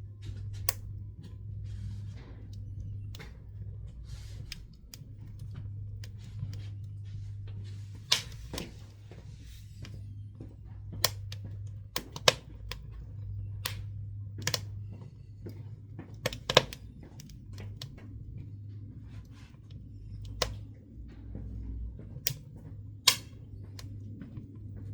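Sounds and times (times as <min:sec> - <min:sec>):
firewood crackling in a stove: 0:00.0 - 0:24.9
steady low hum: 0:00.0 - 0:24.9.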